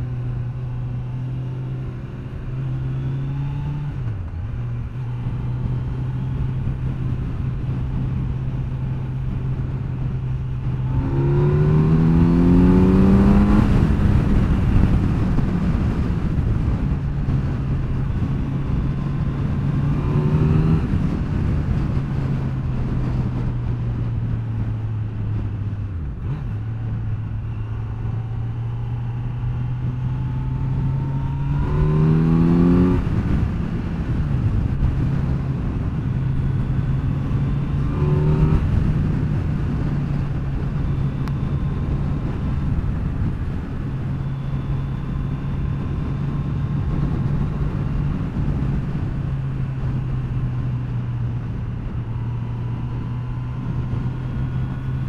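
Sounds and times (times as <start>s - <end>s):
motorcycle engine cruising and revving: 0.0s - 55.0s
wind noise: 0.0s - 55.0s.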